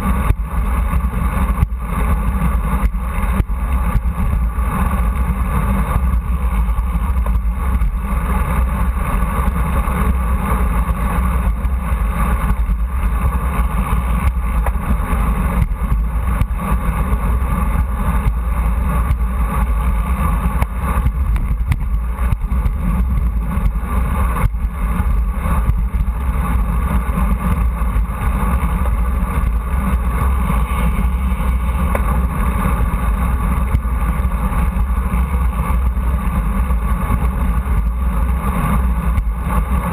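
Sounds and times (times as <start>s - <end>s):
tyre and road noise: 0.0s - 39.9s
wind rumble on microphone: 0.0s - 39.9s.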